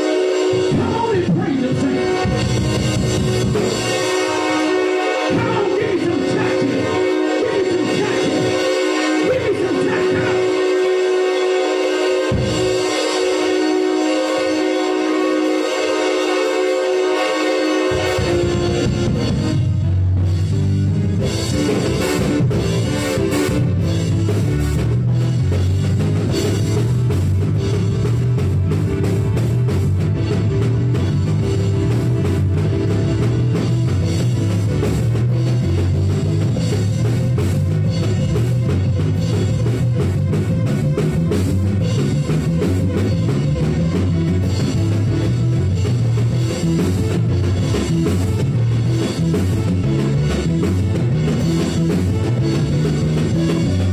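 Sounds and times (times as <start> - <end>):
bass line: 0.0 - 53.9
drum kit beat: 0.0 - 53.9.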